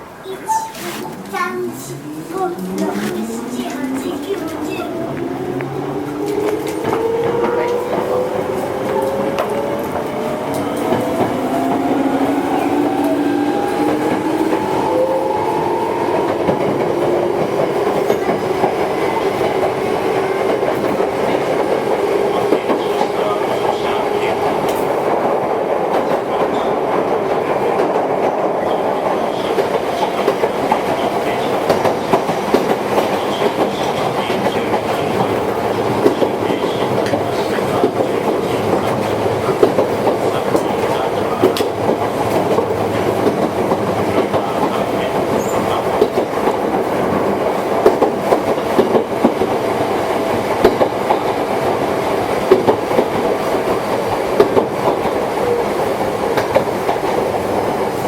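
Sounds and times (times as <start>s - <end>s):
electric train running rumble: 0.0s - 58.0s.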